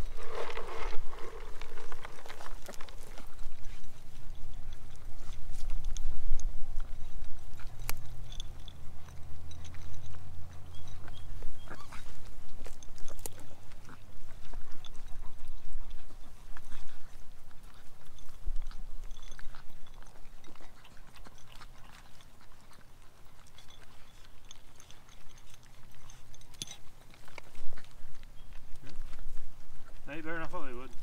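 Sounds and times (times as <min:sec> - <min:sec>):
puppies eating kibble from bowls: 0:00.0 - 0:31.0.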